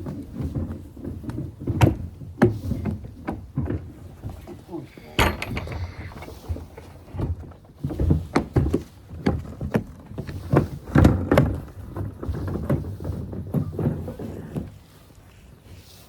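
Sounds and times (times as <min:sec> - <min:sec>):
irregular knocks and thuds: 0:00.0 - 0:04.6, 0:05.2 - 0:14.8.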